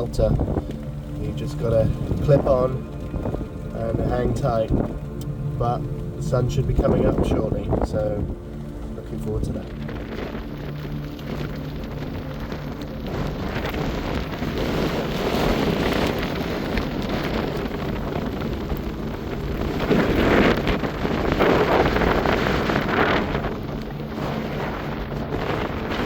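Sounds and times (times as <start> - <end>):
choppy sea rushing: 0.0 - 26.0
wind buffeting microphone: 0.0 - 26.0.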